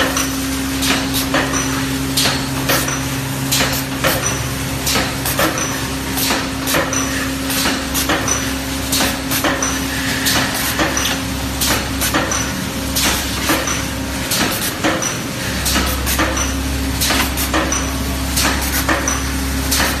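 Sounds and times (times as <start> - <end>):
machine clanking and clicking: 0.0 - 20.0
steady mechanical hum: 0.0 - 20.0.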